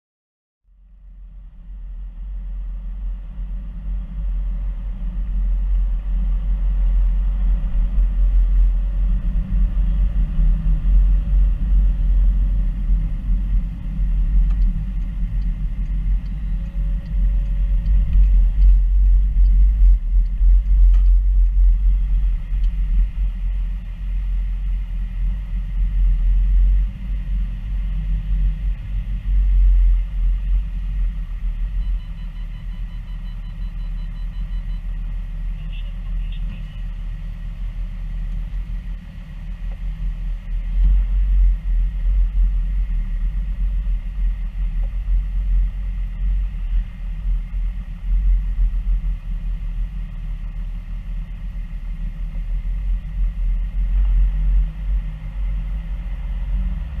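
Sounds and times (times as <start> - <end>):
car engine and road noise: 0.6 - 57.0.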